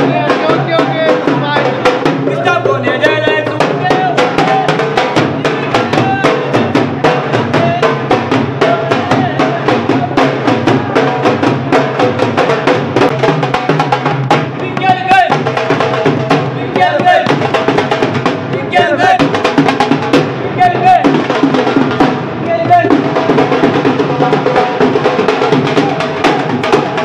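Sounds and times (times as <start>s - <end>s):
drums beaten with sticks: 0.0s - 27.0s
hand drum: 0.0s - 27.0s
voices shouting and singing: 0.0s - 27.0s.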